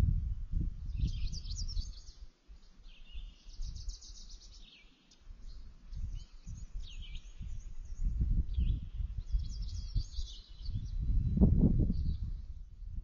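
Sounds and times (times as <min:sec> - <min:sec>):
songbirds singing: 0:00.8 - 0:13.0.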